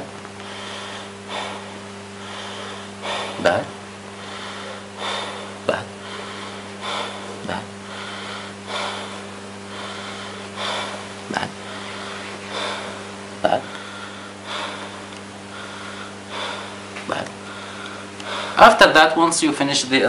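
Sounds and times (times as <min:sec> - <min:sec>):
steady low hum: 0:00.0 - 0:20.0
man breathing through mouth: 0:00.4 - 0:18.6.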